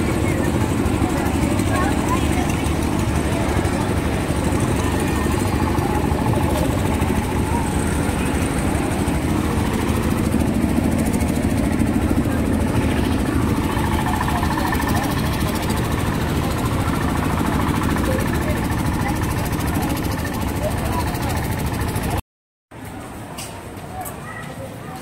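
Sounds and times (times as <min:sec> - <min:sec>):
crowd hubbub: 0:00.0 - 0:22.2, 0:22.8 - 0:25.0
low engine-like rumble: 0:00.0 - 0:22.2.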